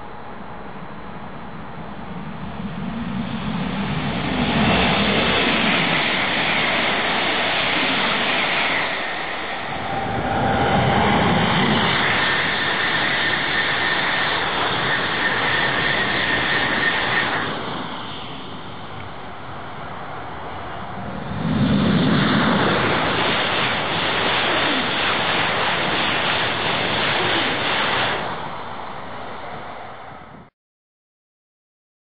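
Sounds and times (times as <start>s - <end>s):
high-speed trains passing: 0.0s - 30.5s.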